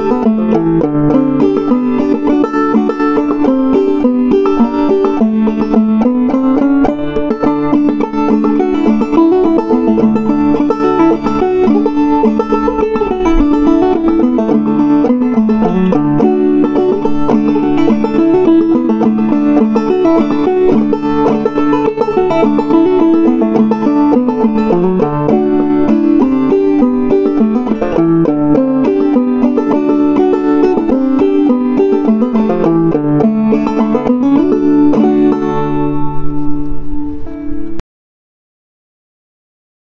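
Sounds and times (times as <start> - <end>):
banjo playing a reel: 0.0 - 37.8.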